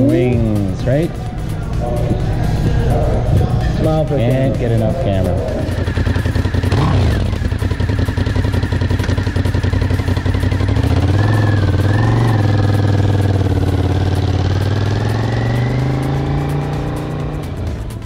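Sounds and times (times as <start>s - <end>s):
motorcycle engine idling and accelerating: 0.0s - 18.0s.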